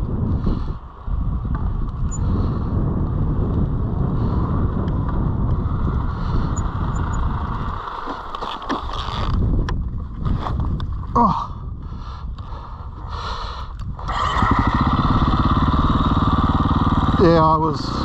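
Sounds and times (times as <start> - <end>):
dirt bike engine running: 0.0 - 10.8, 13.9 - 18.0
wind buffeting microphone: 0.0 - 18.0.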